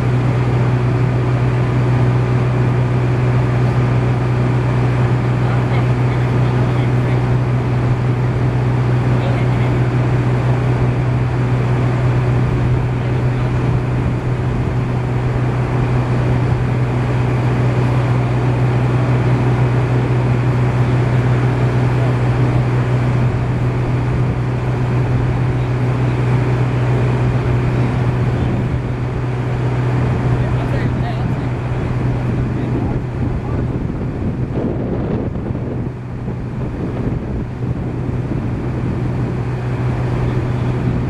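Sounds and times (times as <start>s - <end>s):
small engine droning: 0.0s - 41.0s.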